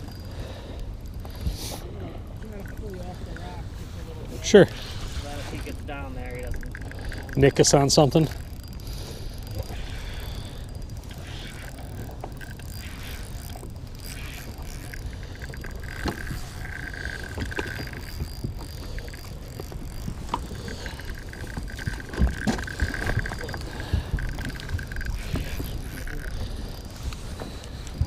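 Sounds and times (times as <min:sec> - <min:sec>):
fishing reel clicking and whirring: 0:00.0 - 0:28.0.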